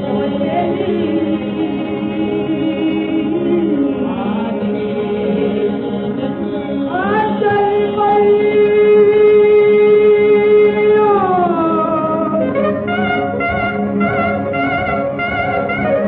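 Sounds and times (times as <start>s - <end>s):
instrumental accompaniment: 0.0s - 16.0s
vocal group singing: 0.0s - 16.0s.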